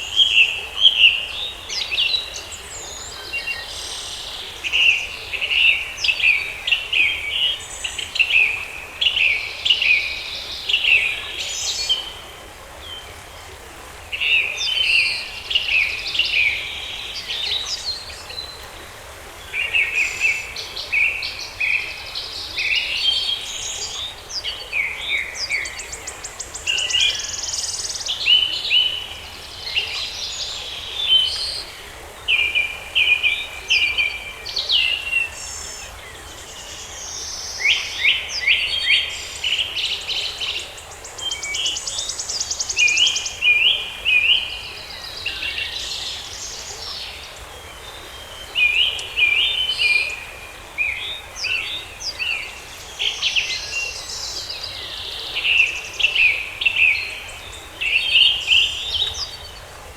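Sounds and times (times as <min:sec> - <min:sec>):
faint background hiss: 0:00.0 - 0:59.9
songbirds singing and trilling: 0:00.0 - 0:59.9.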